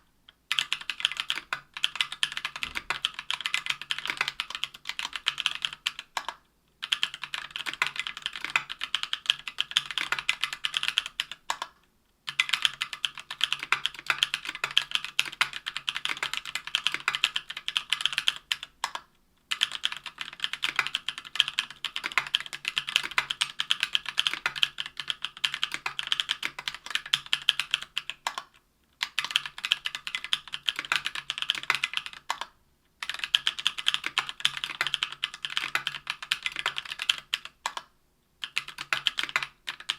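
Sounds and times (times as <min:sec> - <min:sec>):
mechanical keyboard typing: 0:00.5 - 0:39.9.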